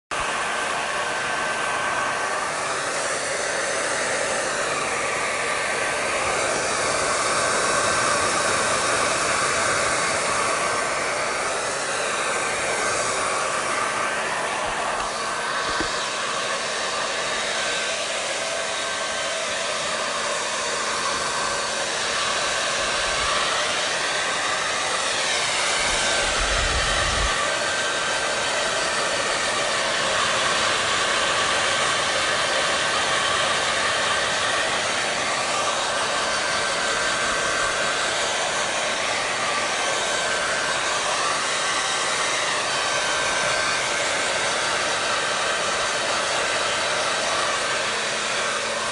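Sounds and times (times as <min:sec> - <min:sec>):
hair dryer running: 0:00.1 - 0:48.9.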